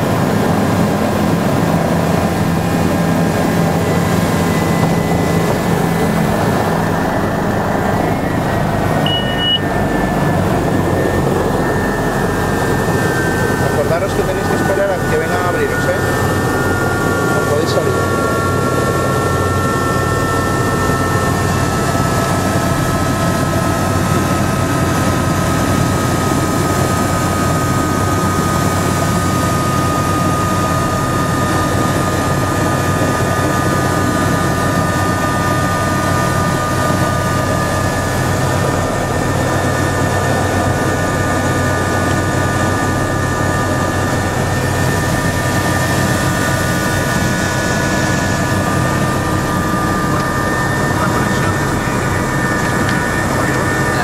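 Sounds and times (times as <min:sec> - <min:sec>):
helicopter rotor drone: 0:00.0 - 0:54.0
high engine whine: 0:00.0 - 0:54.0.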